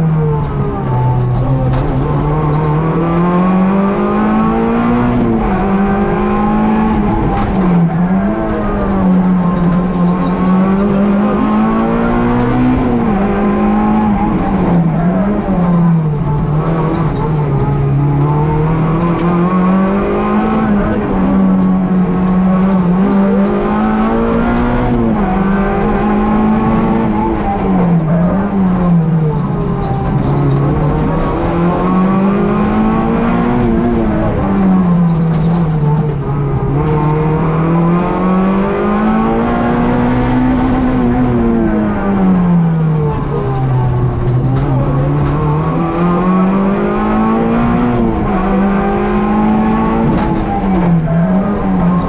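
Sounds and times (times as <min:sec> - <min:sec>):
rally car engine revving: 0:00.0 - 0:52.0
road and tyre noise: 0:00.0 - 0:52.0.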